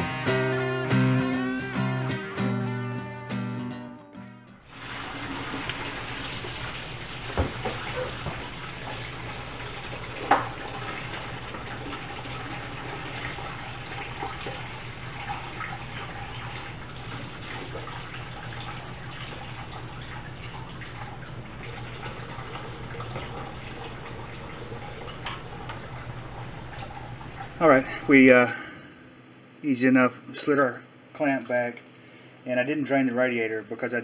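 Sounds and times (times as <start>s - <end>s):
low steady hum: 0.0s - 34.0s
coolant trickling into a bucket: 4.6s - 34.0s.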